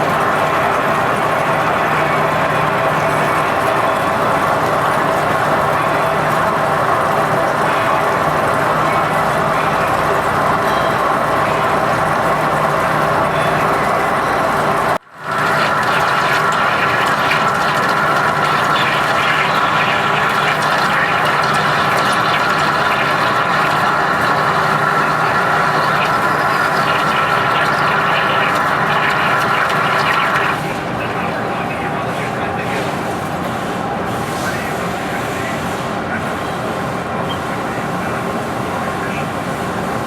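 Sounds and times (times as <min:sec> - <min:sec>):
metal lathe machining: 0:00.0 - 0:40.0.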